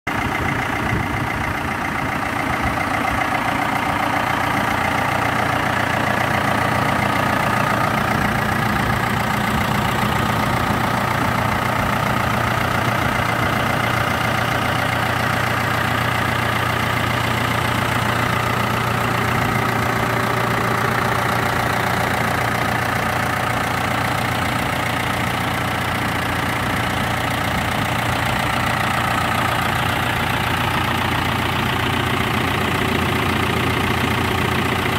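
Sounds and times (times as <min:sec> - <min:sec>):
tractor diesel engine idling: 0:00.1 - 0:34.9.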